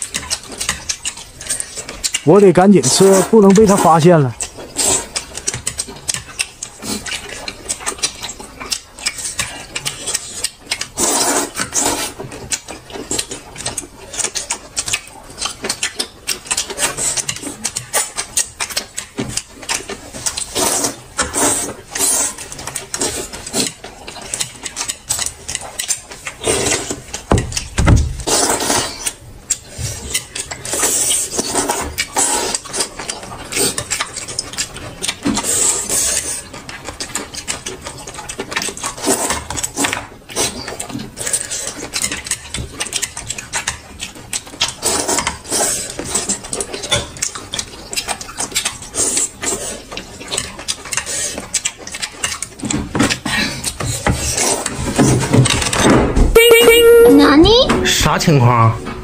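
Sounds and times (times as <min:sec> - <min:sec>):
person chewing and smacking: 0:00.0 - 0:56.0.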